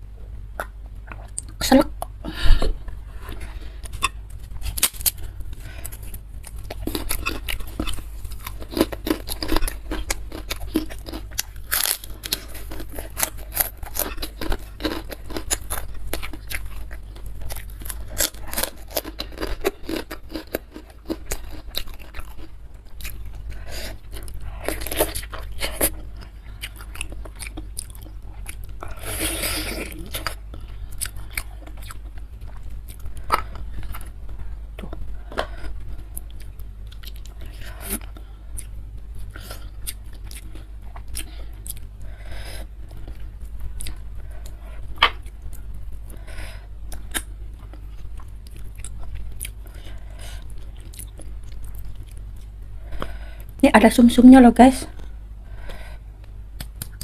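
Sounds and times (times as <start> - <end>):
wet chewing and crunching: 2.9 - 53.6, 54.9 - 57.0.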